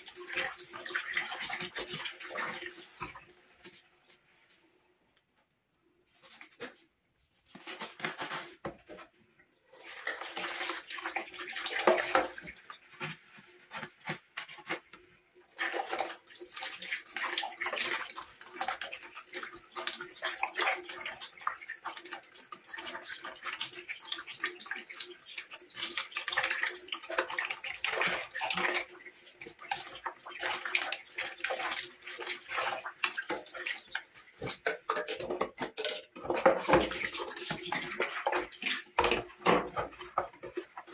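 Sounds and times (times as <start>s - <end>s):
water running and splashing: 0.0s - 4.5s, 9.6s - 14.9s, 15.5s - 40.9s.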